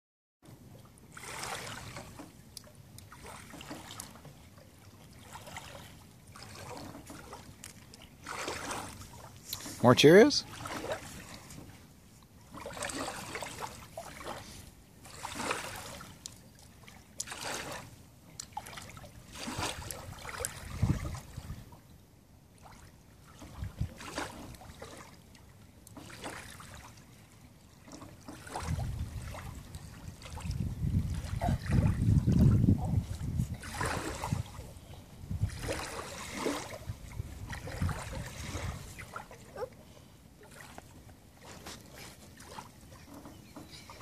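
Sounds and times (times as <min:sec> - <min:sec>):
water lapping at boat ramp: 0:00.4 - 0:44.0.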